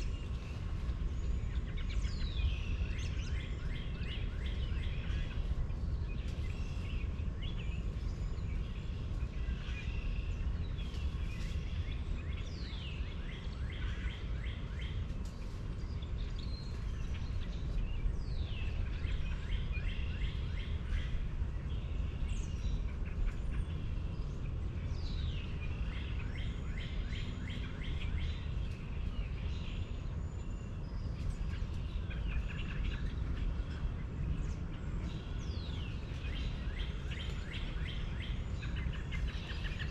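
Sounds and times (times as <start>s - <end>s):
birds chirping: 0.0s - 39.9s
steady low rumble: 0.0s - 39.9s.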